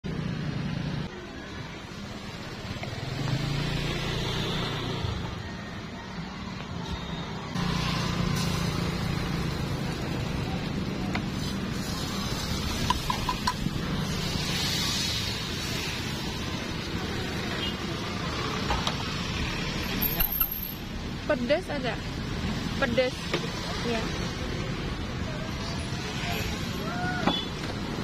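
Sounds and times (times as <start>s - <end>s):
passing motorbikes and cars: 0.1s - 28.0s.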